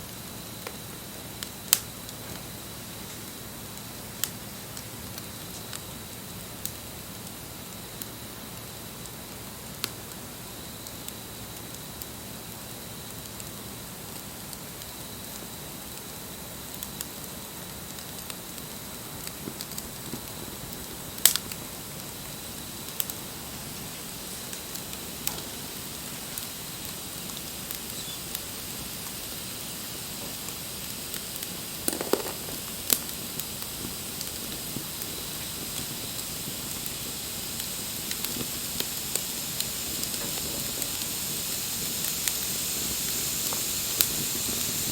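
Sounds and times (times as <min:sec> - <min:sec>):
campfire hissing and crackling: 0:00.0 - 0:44.9
loud fire pops: 0:00.1 - 0:12.1, 0:14.0 - 0:44.9.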